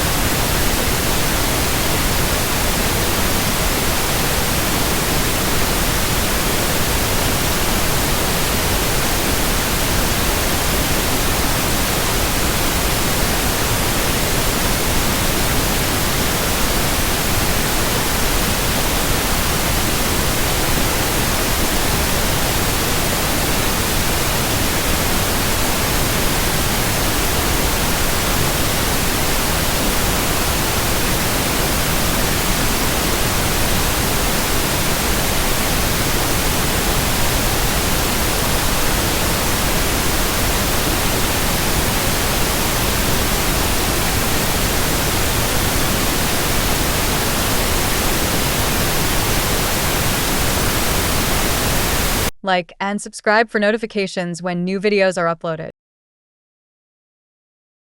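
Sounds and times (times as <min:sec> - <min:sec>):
white-noise hiss: 0:00.0 - 0:52.6.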